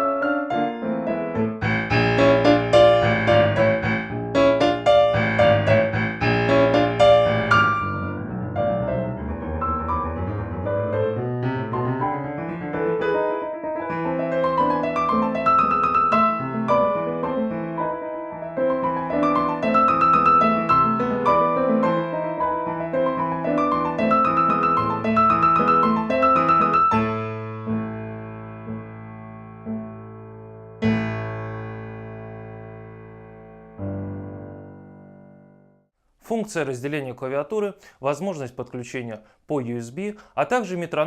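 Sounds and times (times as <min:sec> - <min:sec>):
digital piano playing: 0:00.0 - 0:35.8.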